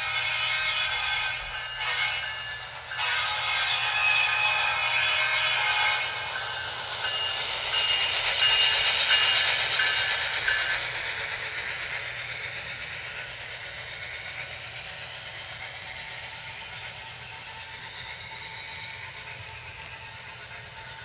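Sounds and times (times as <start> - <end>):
model train rolling along track: 0.0 - 21.0.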